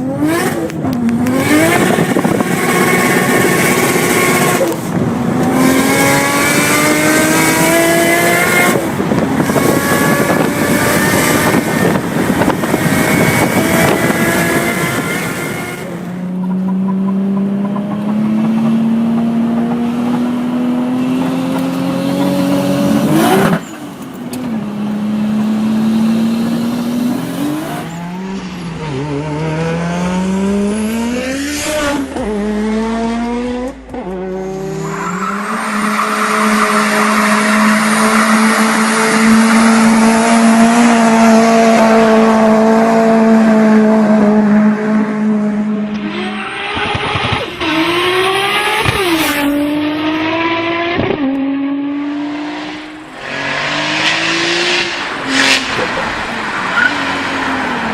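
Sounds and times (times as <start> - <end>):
turbocharged car engines revving: 0.0 - 57.9.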